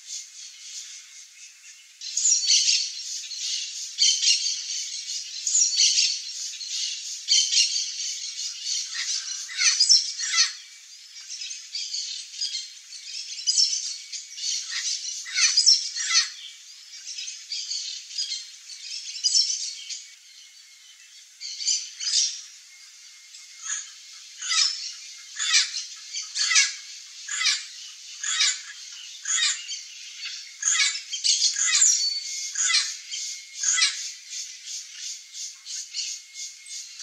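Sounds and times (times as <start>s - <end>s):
birds calling high and short: 0.0s - 37.0s.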